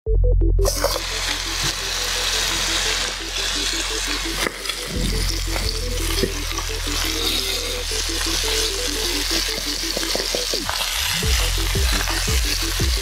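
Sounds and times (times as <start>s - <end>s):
background music with bass line: 0.0s - 13.0s
chicken sizzling in a frying pan: 0.7s - 13.0s.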